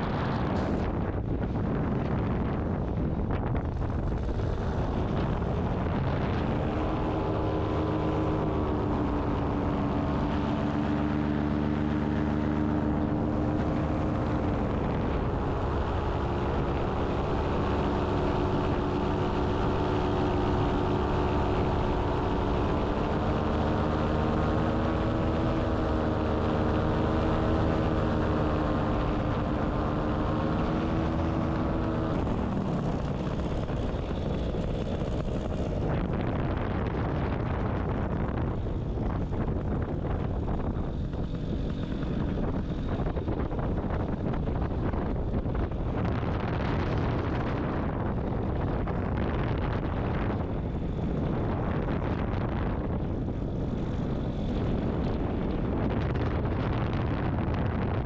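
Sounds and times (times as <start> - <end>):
paramotor engine drone: 0.0 - 58.0.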